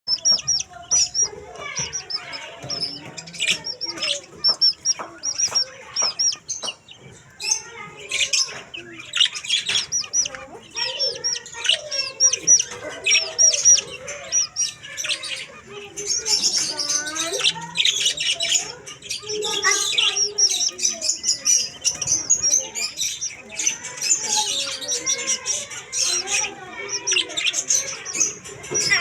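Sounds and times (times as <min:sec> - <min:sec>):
budgerigars chirping: 0:00.1 - 0:29.0.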